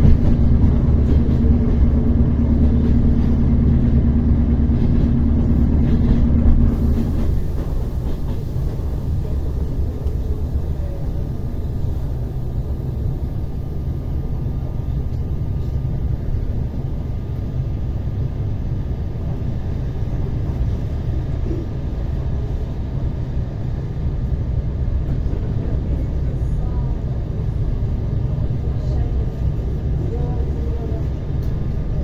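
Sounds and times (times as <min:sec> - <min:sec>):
train rumbling from inside carriage: 0:00.0 - 0:32.0.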